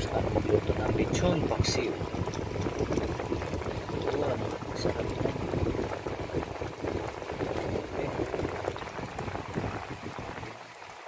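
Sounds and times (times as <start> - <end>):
pot bubbling as it simmers: 0.0 - 11.0.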